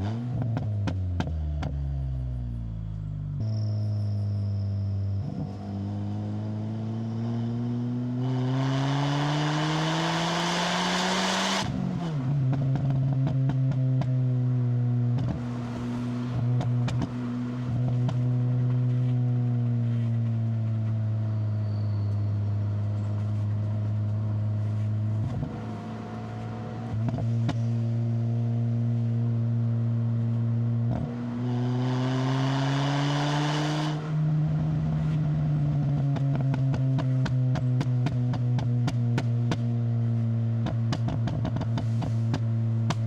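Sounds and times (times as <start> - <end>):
car engine pulling uphill: 0.0 - 43.0.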